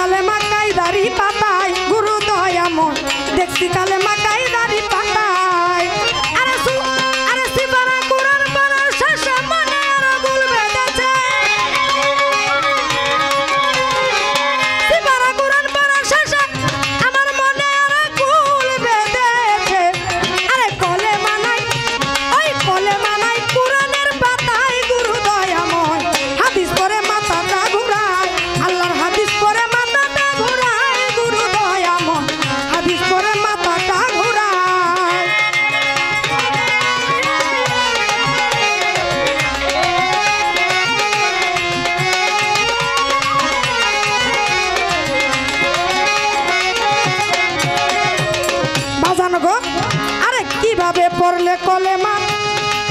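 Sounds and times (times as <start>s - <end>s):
tabla rhythm: 0.0s - 52.9s
violin folk melody: 0.0s - 52.9s.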